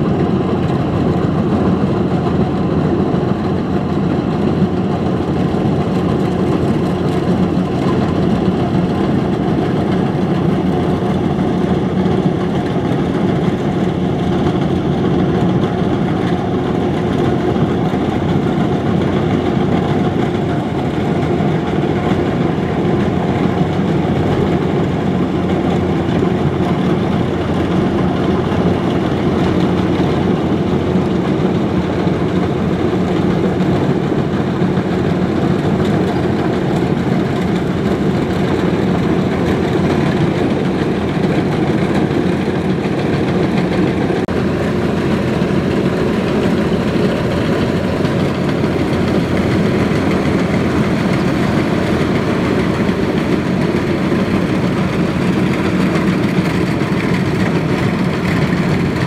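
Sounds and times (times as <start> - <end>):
combine harvester diesel engine drone: 0.0 - 59.0.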